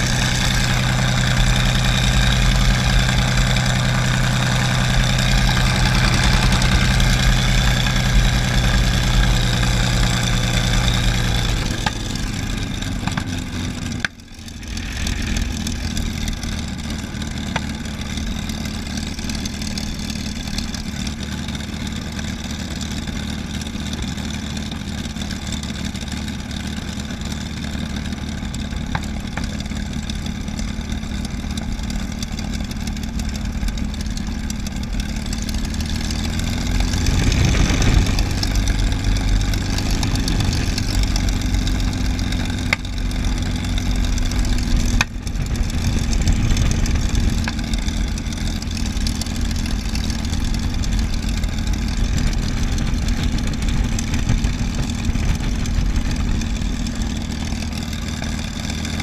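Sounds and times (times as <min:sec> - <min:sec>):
aircraft piston engine droning: 0:00.0 - 0:59.0.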